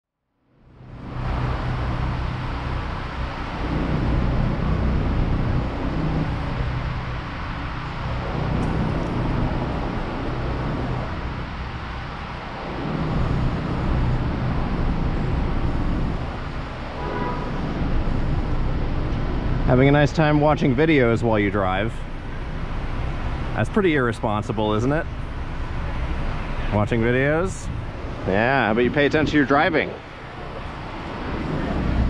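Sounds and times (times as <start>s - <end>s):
city street traffic: 0.3s - 32.0s.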